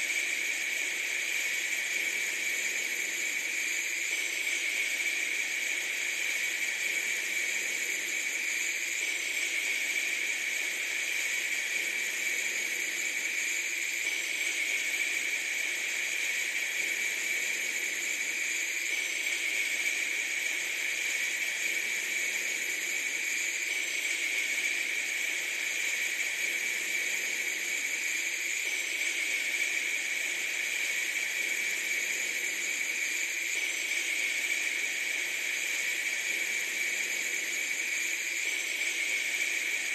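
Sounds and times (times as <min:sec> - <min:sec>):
steady bright hiss: 0:00.0 - 0:39.9.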